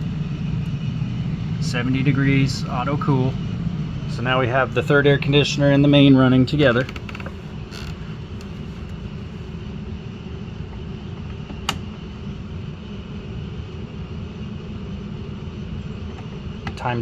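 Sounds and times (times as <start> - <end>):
air conditioner fan humming: 0.0 - 17.0.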